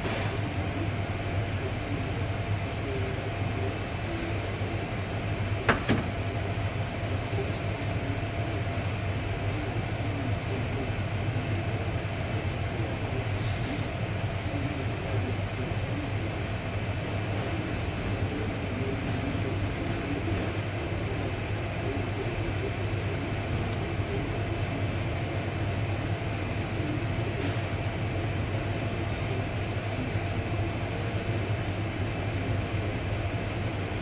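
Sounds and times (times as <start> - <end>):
machine hum and hiss: 0.0 - 34.0.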